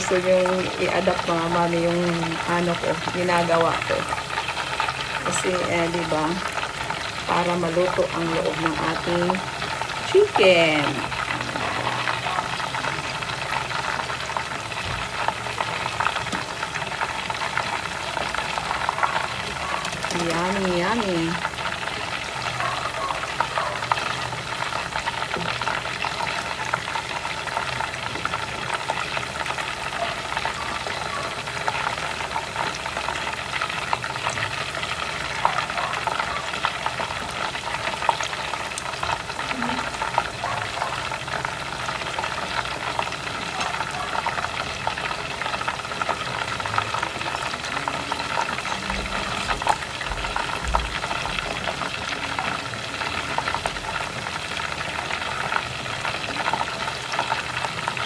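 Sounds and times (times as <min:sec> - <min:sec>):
chicken frying in oil: 0:00.0 - 0:58.0.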